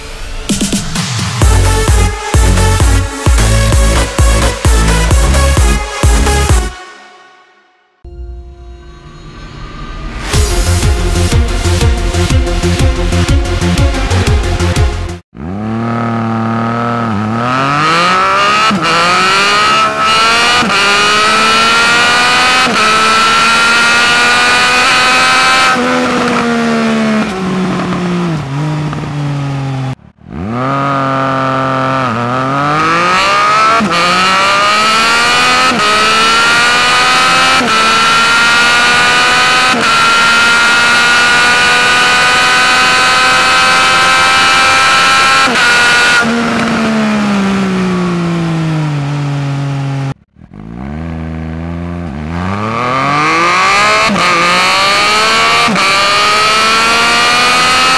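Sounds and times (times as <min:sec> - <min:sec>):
motorcycle engine accelerating: 0:00.0 - 0:06.8, 0:10.0 - 0:57.9.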